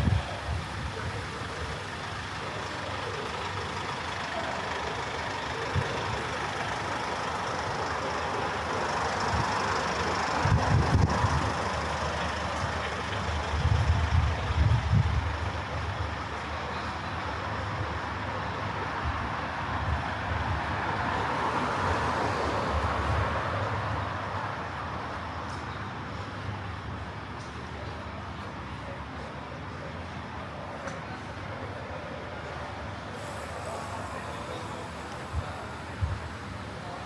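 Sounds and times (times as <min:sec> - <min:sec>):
traffic engine and tyre noise: 0:00.0 - 0:37.0.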